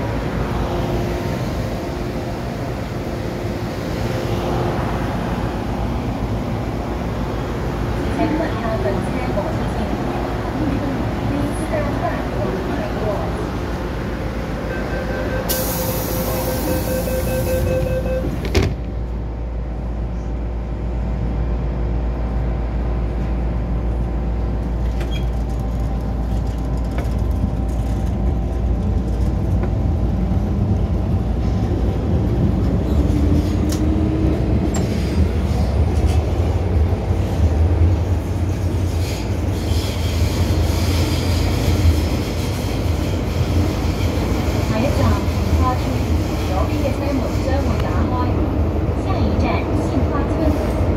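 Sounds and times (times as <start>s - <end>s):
train cabin rumble: 0.0s - 50.9s.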